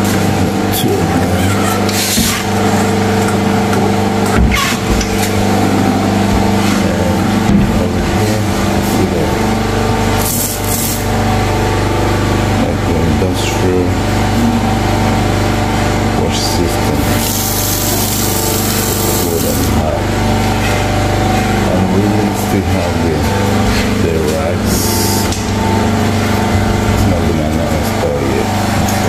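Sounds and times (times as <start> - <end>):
power generator drone: 0.0 - 29.0.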